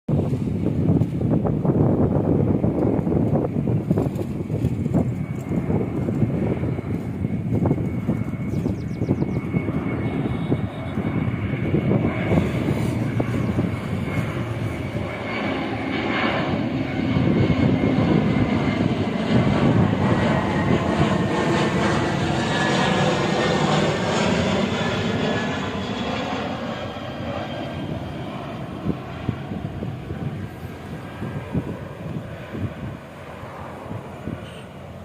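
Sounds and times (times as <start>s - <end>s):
jet airliner flying past: 0.1s - 35.0s.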